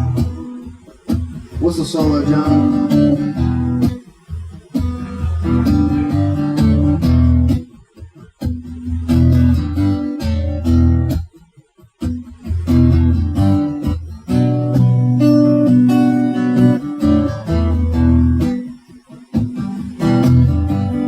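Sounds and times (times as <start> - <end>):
guitar chords strummed: 0.0 - 21.0.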